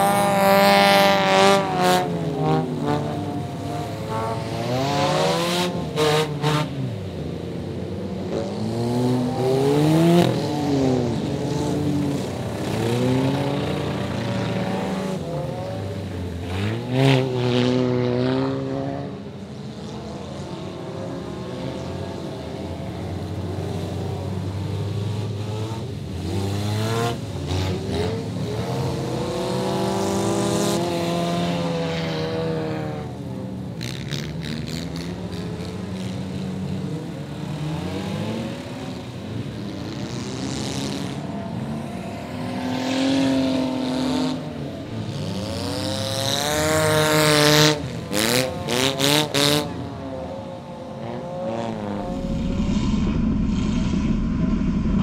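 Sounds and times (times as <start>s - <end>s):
race car engines revving and passing: 0.0s - 55.0s.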